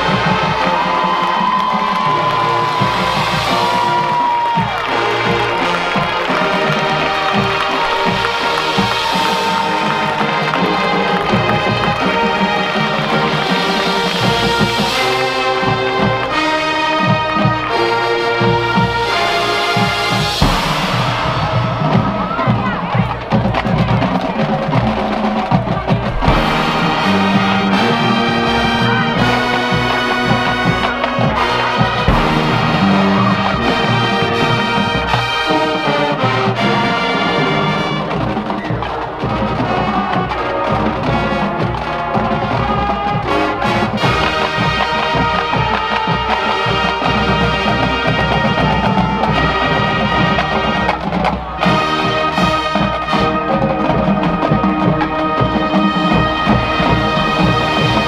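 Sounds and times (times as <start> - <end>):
brass chords: 0.0 - 58.0
drums and percussion: 0.0 - 58.0.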